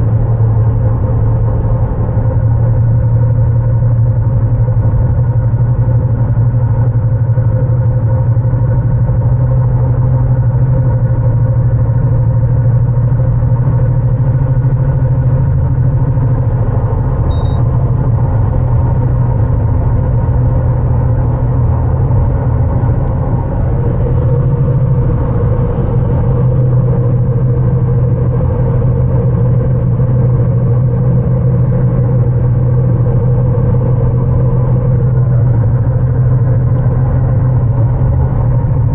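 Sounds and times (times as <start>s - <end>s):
car engine and road drone: 0.0s - 38.9s.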